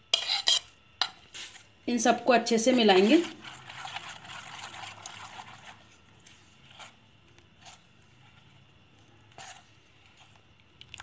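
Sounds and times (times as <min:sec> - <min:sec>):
spoon scraping metal bowl: 0:00.0 - 0:01.7, 0:02.5 - 0:10.4
spoon stirring in metal bowl: 0:00.0 - 0:10.8.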